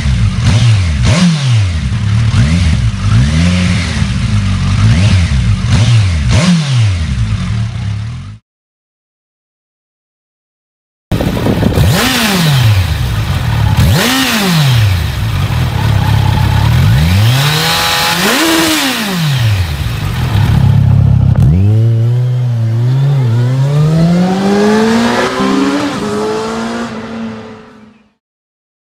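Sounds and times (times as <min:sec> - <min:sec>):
motorcycle engine revving: 0:00.0 - 0:08.4, 0:11.1 - 0:28.0.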